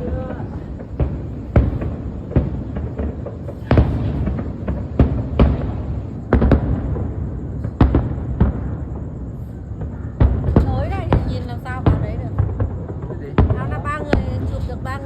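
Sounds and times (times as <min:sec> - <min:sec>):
low rumble of firework bursts: 0:00.0 - 0:15.0
sharp firework booms: 0:00.0 - 0:15.0.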